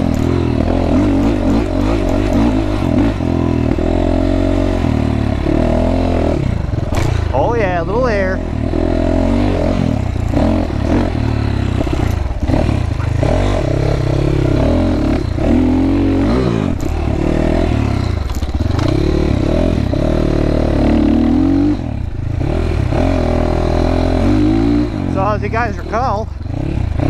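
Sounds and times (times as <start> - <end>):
motorcycle engine revving through gears: 0.0 - 27.0.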